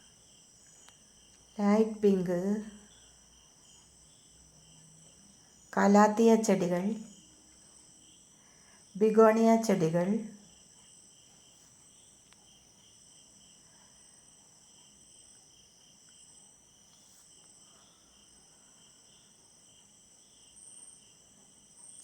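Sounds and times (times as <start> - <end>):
rapidly pulsing insect trill: 0.0 - 22.0.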